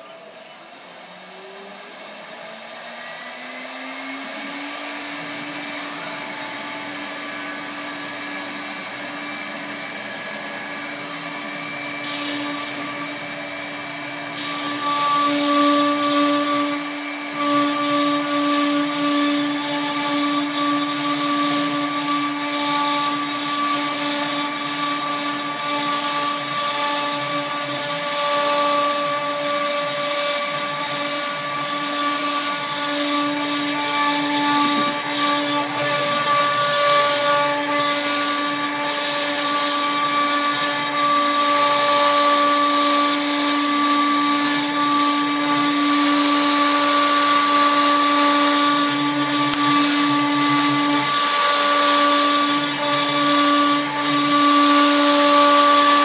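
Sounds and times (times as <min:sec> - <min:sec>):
bit cutting through wood board: 0:00.0 - 0:56.0
router spindle whine: 0:00.0 - 0:56.0.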